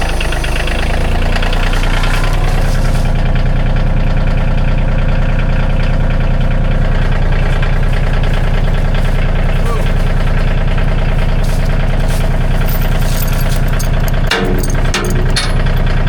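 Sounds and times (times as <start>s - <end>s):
vehicle engine running steadily: 0.0s - 16.0s.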